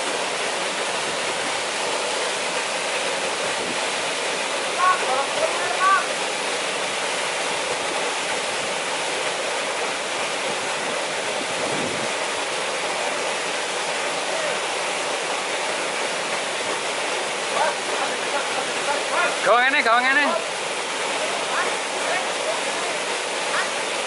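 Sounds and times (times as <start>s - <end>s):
river water rushing over rapids: 0.0s - 24.0s.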